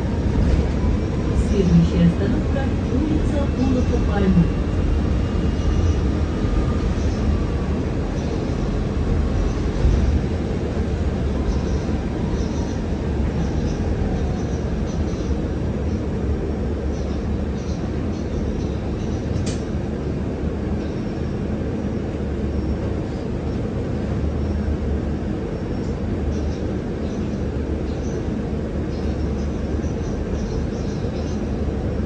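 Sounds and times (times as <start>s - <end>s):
road rumble and tyre hiss: 0.0s - 32.0s.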